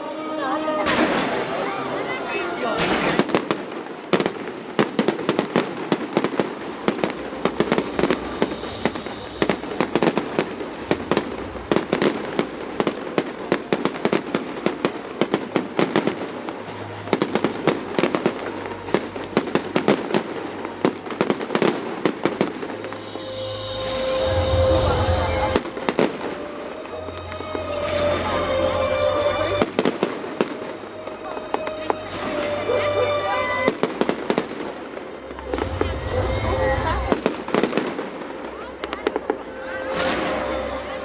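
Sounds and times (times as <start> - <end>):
fireworks bangs and crackles: 0.8 - 41.0.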